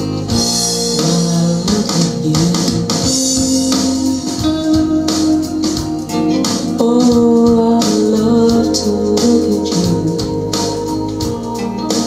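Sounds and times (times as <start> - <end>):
song through loudspeakers: 0.0 - 12.0.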